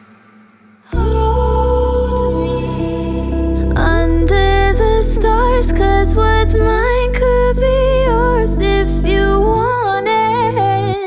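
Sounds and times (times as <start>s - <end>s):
soft pop song instrumental: 0.9s - 11.0s.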